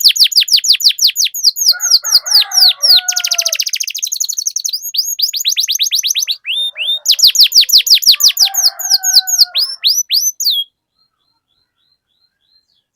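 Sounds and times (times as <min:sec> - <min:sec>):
canary singing trills: 0:00.0 - 0:12.9.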